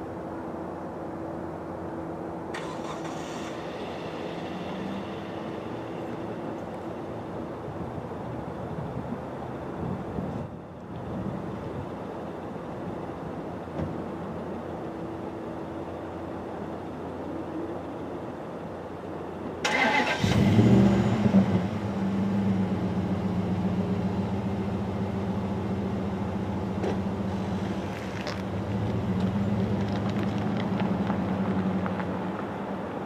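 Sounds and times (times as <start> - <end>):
low steady rumble: 0.0 - 33.0
car engine starting and idling: 1.7 - 8.7, 11.5 - 33.0.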